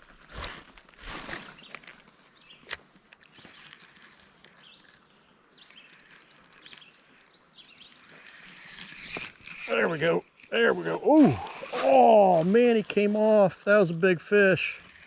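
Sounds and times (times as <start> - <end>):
steady faint hiss: 1.1 - 15.0.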